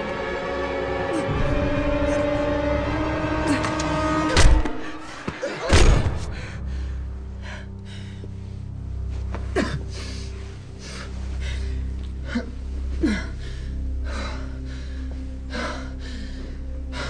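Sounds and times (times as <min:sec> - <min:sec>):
low music drone: 0:00.0 - 0:17.0.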